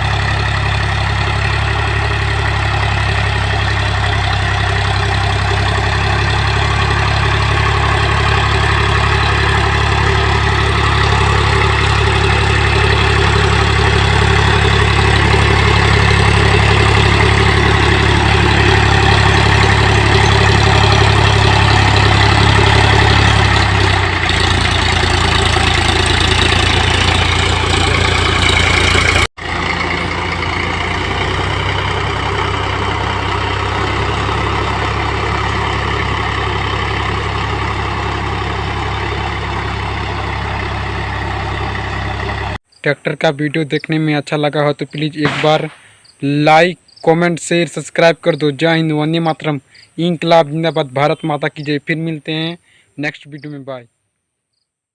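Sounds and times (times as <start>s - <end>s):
tractor diesel engine running: 0.0s - 53.7s.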